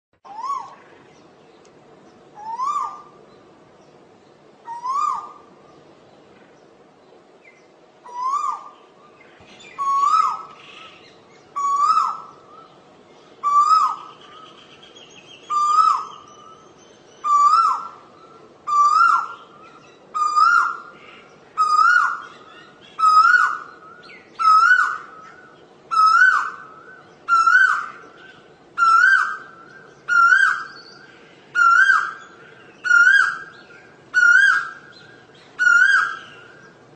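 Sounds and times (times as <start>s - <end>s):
bird calling ko-el: 0.2s - 36.9s.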